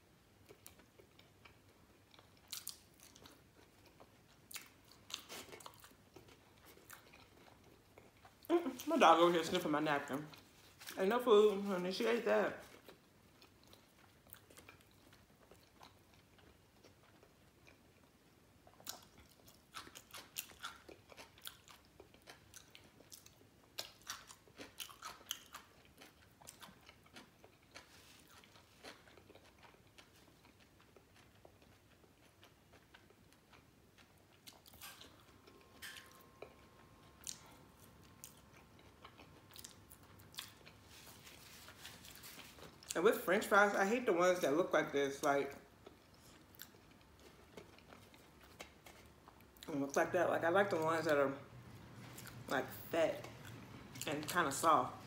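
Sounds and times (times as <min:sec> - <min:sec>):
chewing french fries: 0:00.0 - 0:55.0.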